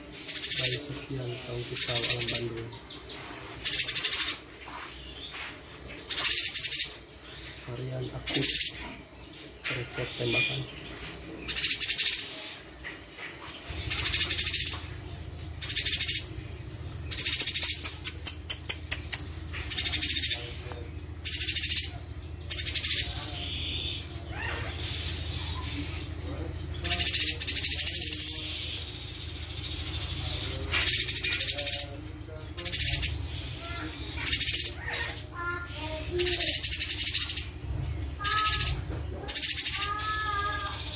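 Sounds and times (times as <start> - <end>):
bird singing rapid high phrases: 0.0 - 40.9.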